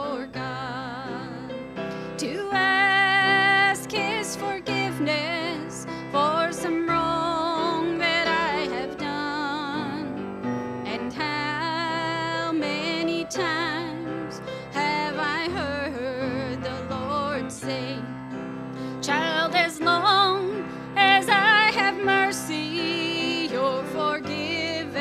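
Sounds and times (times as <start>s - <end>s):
person singing with vibrato: 0.0s - 10.3s, 10.9s - 18.2s, 18.8s - 25.0s
grand piano: 0.0s - 25.0s.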